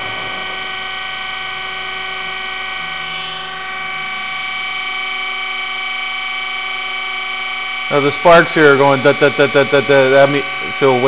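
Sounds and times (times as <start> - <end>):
grinder motors whining: 0.0 - 11.0
grinding wheel on steel: 0.0 - 11.0.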